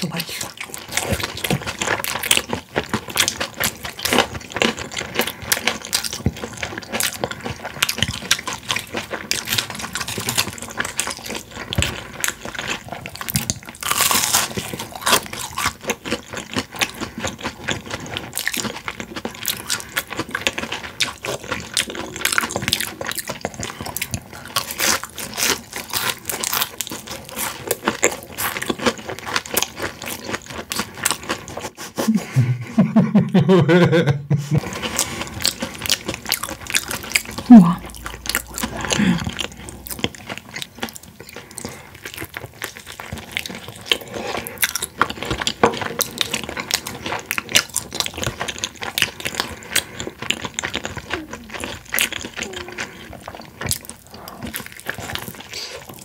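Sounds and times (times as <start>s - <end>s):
chewing crispy fried chicken: 0.0s - 32.4s, 34.5s - 56.0s.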